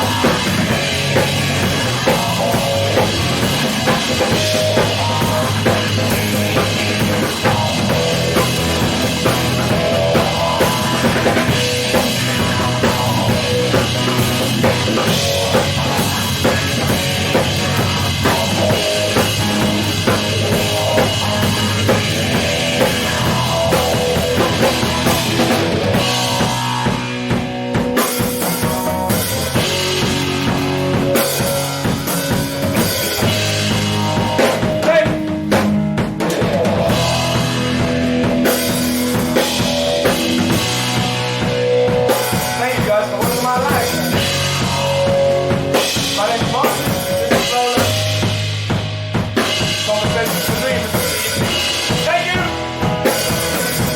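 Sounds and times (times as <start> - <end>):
drum kit with rimshots: 0.0 - 53.9
instrumental rock band: 0.0 - 53.9.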